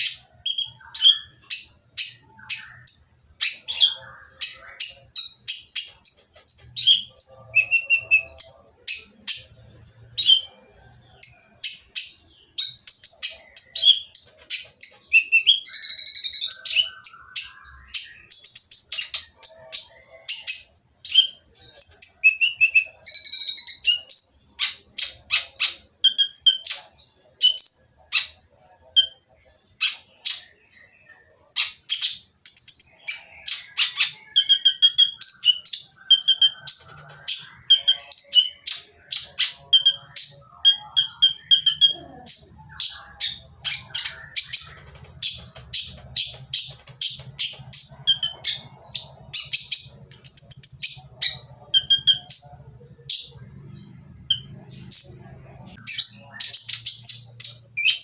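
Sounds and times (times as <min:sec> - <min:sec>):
buzzy rattling bird phrases: 0:00.0 - 0:58.0.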